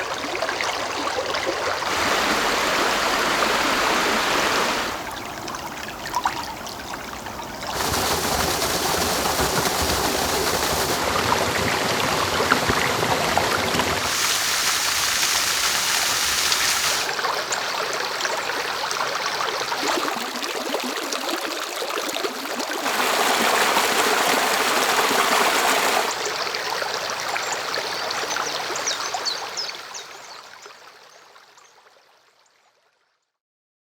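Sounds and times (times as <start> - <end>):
stream water rushing and trickling: 0.0 - 32.5.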